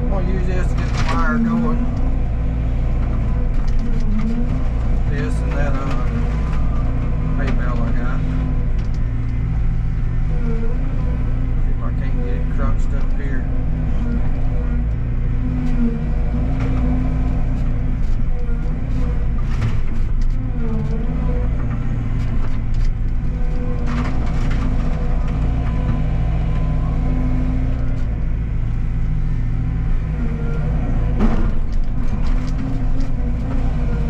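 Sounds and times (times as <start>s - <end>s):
diesel engine running: 0.0s - 34.0s
hydraulic whine: 0.0s - 34.0s.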